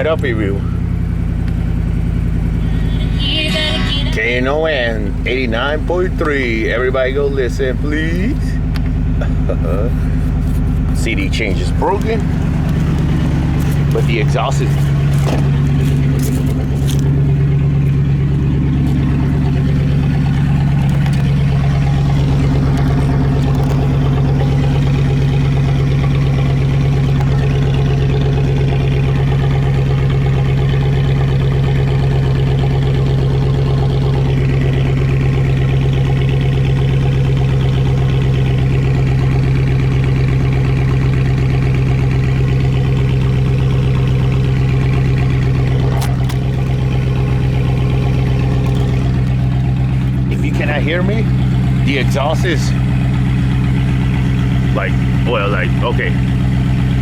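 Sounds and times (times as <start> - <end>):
truck engine idling loudly: 0.0 - 57.0.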